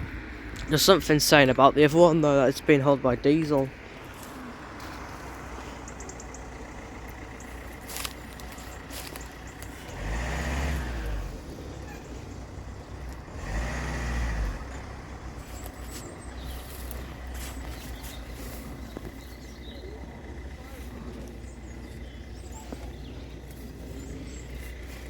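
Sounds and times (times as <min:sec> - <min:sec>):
vehicle engines running: 0:00.0 - 0:25.0
vehicles passing by: 0:00.0 - 0:25.0.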